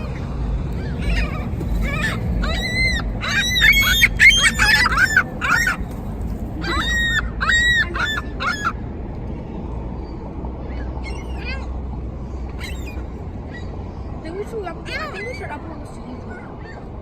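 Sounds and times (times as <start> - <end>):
seagulls squawking: 0.0 - 8.9, 10.0 - 17.0.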